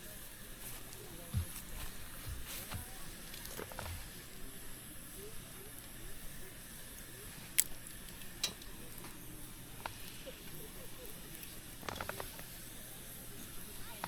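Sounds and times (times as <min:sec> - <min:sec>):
campfire hissing: 0:00.0 - 0:14.0
fire crackling pops: 0:00.1 - 0:14.0.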